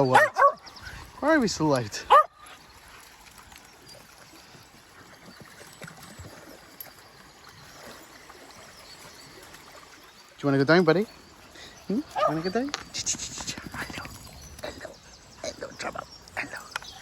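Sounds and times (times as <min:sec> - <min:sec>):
soft ticks and rustles: 0:01.4 - 0:17.0.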